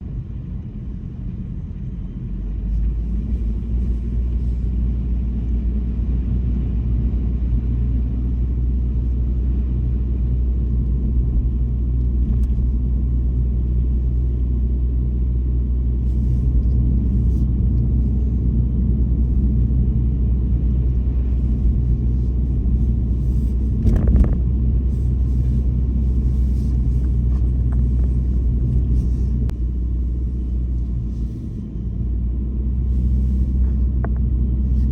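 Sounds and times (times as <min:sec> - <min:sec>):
car cabin road and engine rumble: 0:00.0 - 0:34.9.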